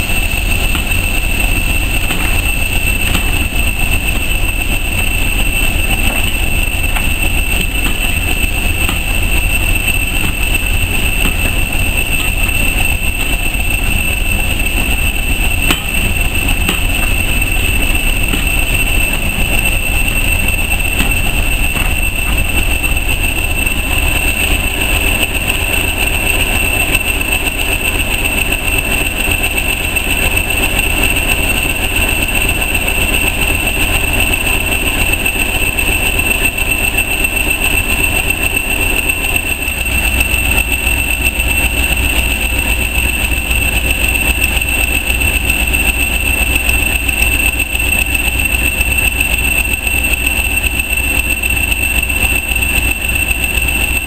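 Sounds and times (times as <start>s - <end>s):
high whine: 0.0s - 54.0s.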